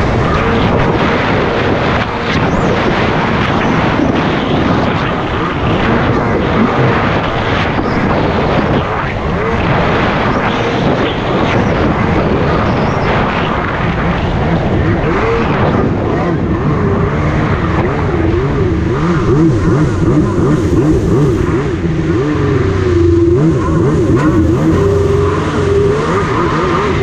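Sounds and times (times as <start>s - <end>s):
jet ski engine drone: 0.0s - 27.0s
rushing water: 0.0s - 27.0s.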